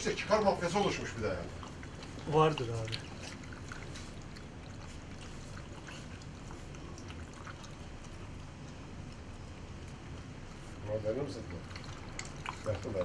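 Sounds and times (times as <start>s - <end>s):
puppies lapping and slurping: 0.0s - 13.0s.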